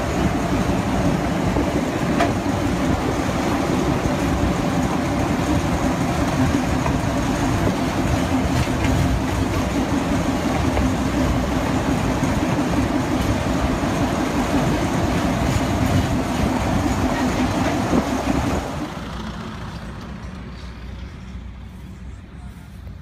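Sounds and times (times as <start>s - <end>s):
locomotive engine drone: 0.0s - 23.0s
vehicle rumble: 0.0s - 23.0s.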